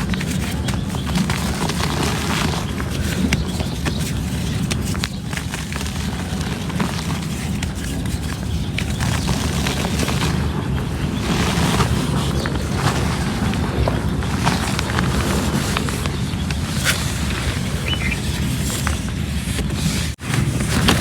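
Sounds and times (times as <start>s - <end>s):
cement crumbling and crunching: 0.0s - 21.0s.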